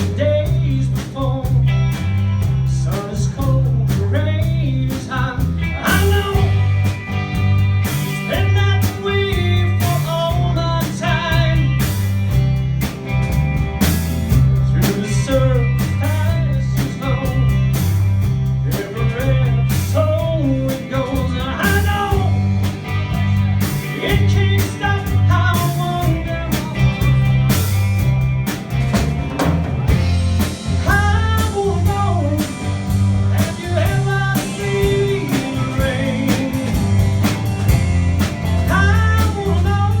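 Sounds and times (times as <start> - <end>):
drum kit with cymbal hits: 0.0 - 40.0
rock song with singing: 0.0 - 40.0.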